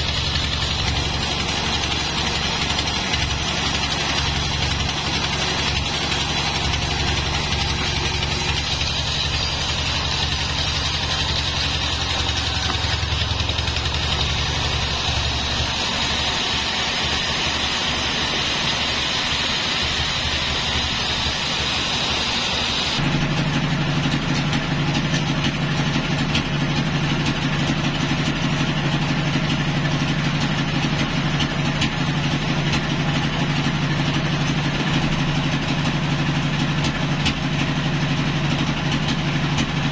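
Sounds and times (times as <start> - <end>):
band saw cutting log: 0.0 - 39.9
engine hum: 0.0 - 39.9.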